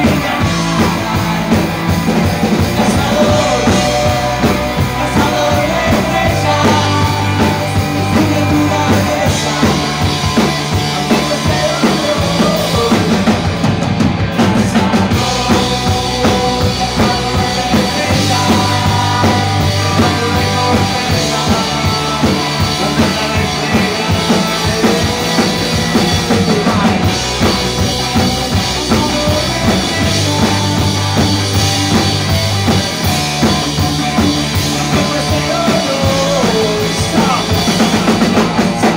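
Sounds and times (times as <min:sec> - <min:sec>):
bass notes: 0:00.0 - 0:38.9
drum kit pounding: 0:00.0 - 0:38.9
electric guitars: 0:00.0 - 0:38.9.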